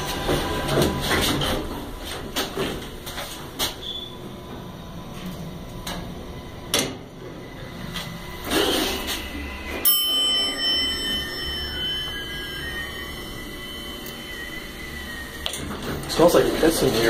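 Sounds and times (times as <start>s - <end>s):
elevator car rumbling: 0.0s - 17.0s.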